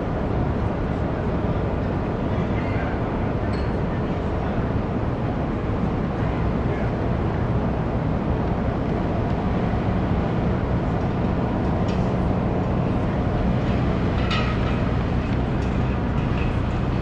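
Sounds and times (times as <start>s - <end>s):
ship machinery drone: 0.0s - 17.0s.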